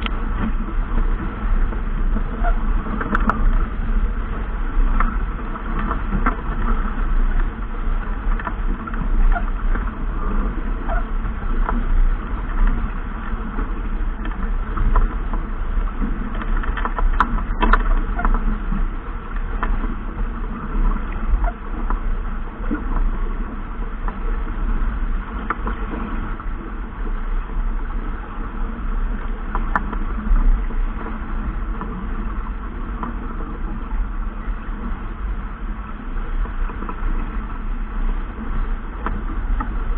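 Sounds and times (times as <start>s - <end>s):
deep rumble: 0.0s - 39.9s
wind and water rushing: 0.0s - 39.9s.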